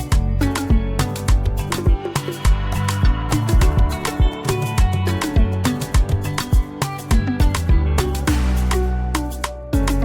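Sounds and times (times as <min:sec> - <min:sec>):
deep bass: 0:00.0 - 0:01.9, 0:02.5 - 0:10.0
plucked melodic lines: 0:00.0 - 0:10.0
upbeat background music: 0:00.0 - 0:10.0
steady drum beat: 0:00.1 - 0:10.0.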